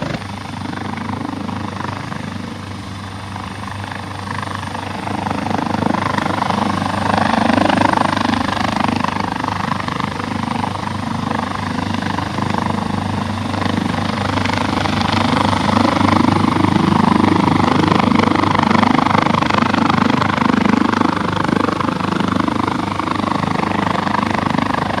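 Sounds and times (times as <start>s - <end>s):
helicopter rotor beating: 0.0s - 25.0s
turbine whine: 0.0s - 25.0s.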